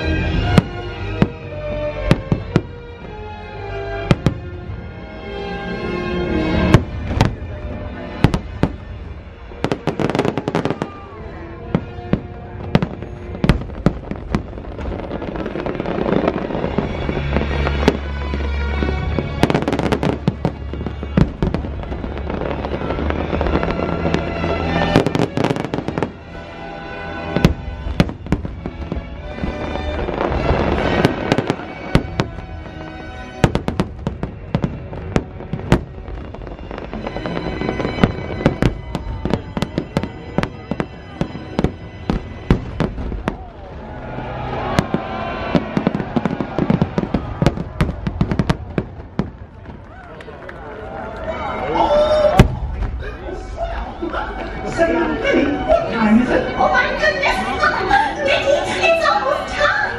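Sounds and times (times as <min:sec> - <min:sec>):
fireworks bangs and crackling: 0:00.0 - 0:04.9, 0:06.2 - 0:55.7.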